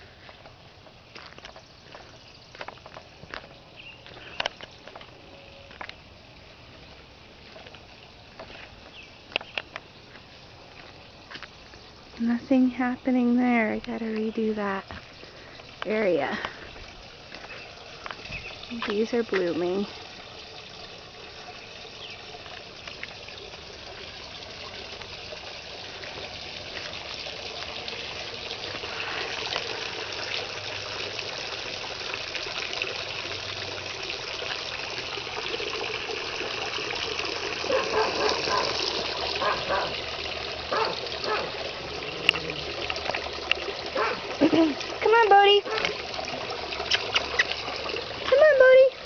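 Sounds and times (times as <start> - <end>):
water trickling: 0.0 - 49.0.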